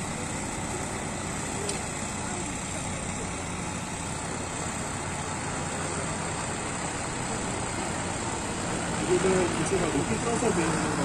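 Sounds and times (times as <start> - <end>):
blades working soil: 0.0 - 11.0
cultivator engine running: 0.0 - 11.0.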